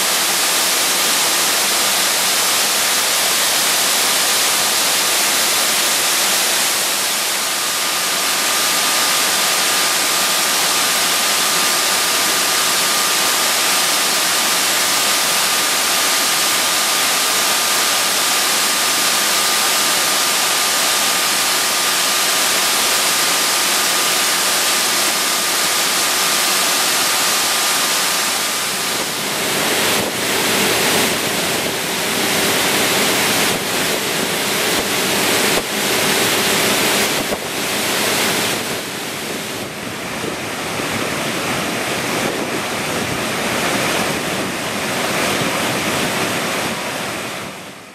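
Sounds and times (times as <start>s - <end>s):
large fan hum: 0.0s - 47.9s
thin steady whine: 0.0s - 47.9s
water rushing in cooling tower: 0.0s - 47.9s.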